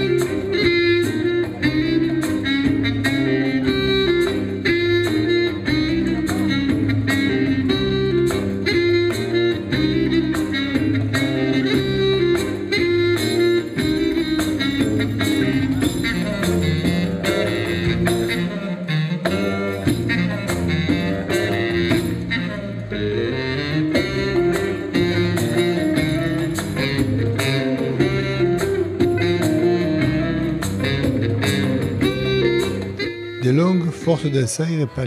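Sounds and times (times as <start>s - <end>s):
electric plucked string instrument: 0.0s - 33.4s
electric bass: 0.0s - 34.1s
reed wind instrument melody: 0.0s - 35.0s.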